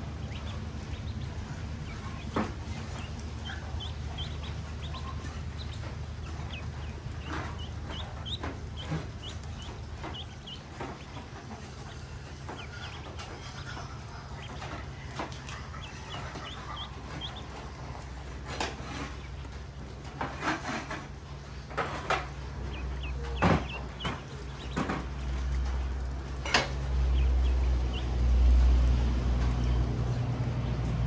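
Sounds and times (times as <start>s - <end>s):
ducklings peeping: 0.0s - 31.0s
low background rumble: 0.0s - 31.0s.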